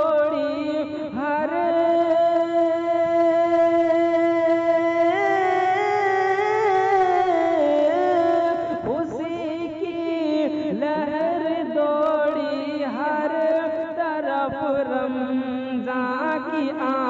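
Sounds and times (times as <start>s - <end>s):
person singing solo: 0.0s - 17.0s.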